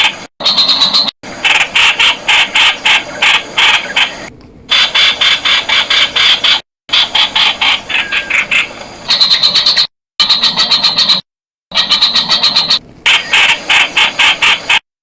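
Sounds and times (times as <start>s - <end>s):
bird calling sharp notes: 0.4s - 14.8s.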